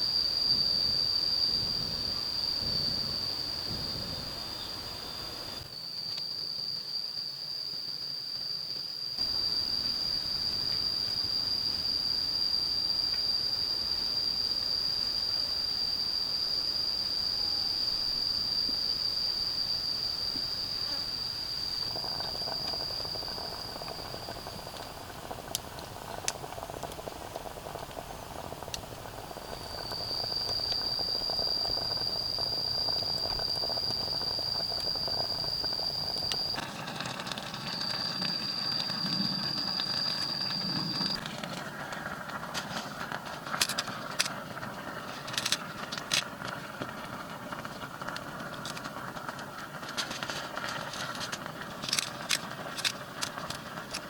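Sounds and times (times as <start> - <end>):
cicada chorus drone: 0.0 - 54.0.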